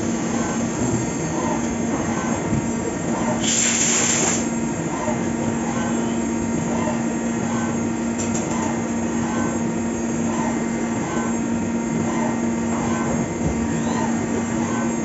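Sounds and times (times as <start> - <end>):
milling machine hum: 0.0 - 15.0.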